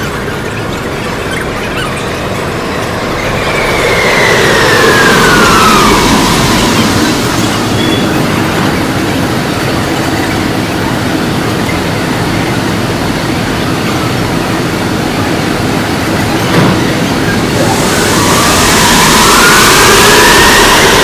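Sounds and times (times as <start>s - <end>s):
train and platform rumble: 0.0s - 21.0s.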